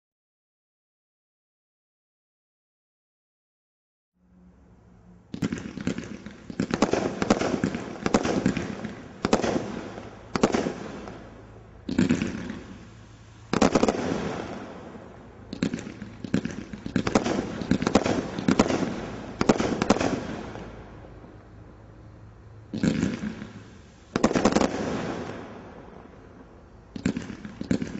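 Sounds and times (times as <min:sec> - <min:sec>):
roman candle firework shots: 0:05.3 - 0:27.9.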